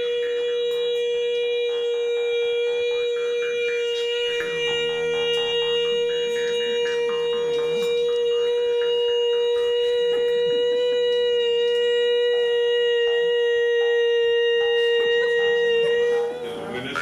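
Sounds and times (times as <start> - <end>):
harmonica long steady note: 0.0 - 17.0.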